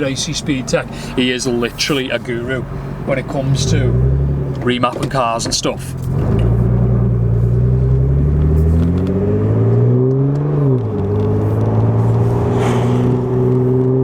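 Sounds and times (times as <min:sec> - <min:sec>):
car engine accelerating: 0:01.7 - 0:14.0.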